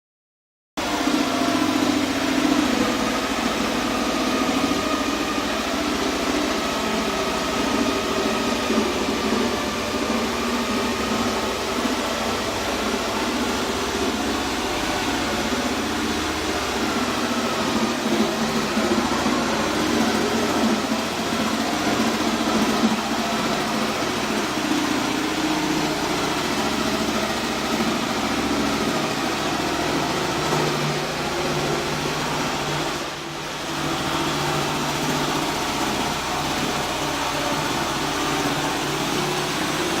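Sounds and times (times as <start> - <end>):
machine running steadily: 0.8 - 40.0.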